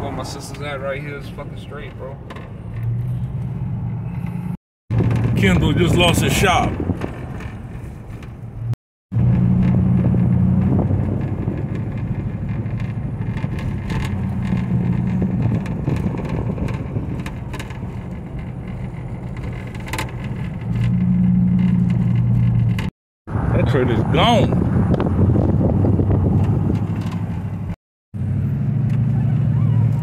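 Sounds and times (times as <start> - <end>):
vehicle engine and road drone: 0.0 - 30.0.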